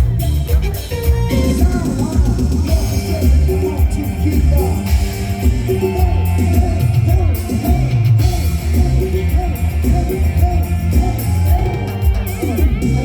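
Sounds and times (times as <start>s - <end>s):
live band playing dance music: 0.0s - 13.0s.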